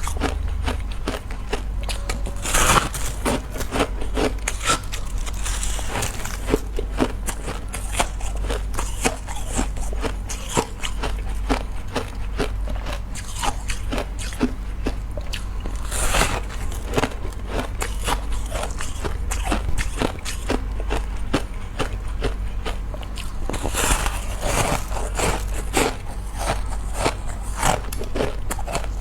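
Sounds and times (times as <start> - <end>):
person crunching ice: 0.0 - 14.5, 15.3 - 29.0.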